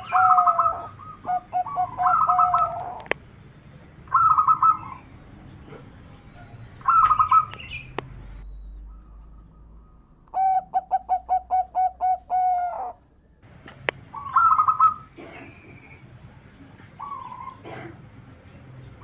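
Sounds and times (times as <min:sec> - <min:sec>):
dove trilling and cooing: 0:00.0 - 0:03.2, 0:04.0 - 0:08.0, 0:08.8 - 0:13.0, 0:13.8 - 0:16.1, 0:16.8 - 0:19.0.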